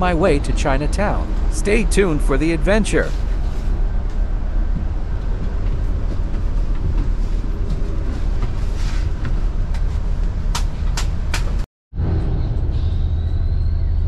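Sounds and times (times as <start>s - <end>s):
large vehicle engine rumble: 0.0s - 14.0s.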